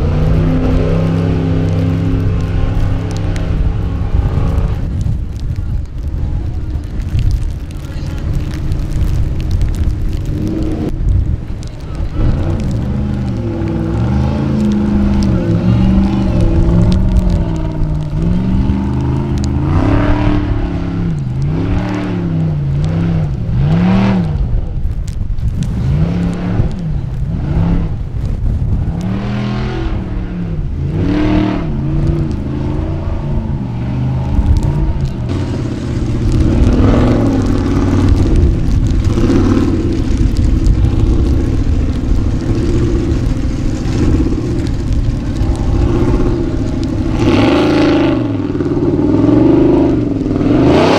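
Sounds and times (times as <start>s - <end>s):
buggy engine revving: 0.0s - 50.9s
tyres spinning on wet gravel: 0.0s - 50.9s.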